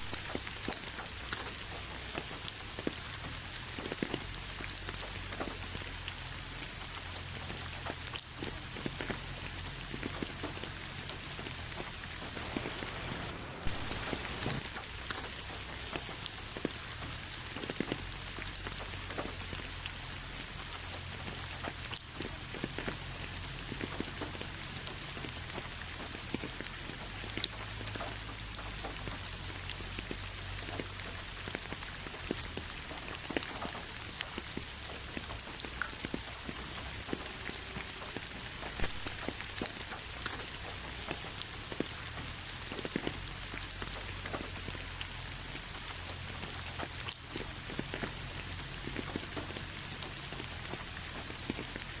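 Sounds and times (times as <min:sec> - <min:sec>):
steady rain hissing: 0:00.0 - 0:52.0.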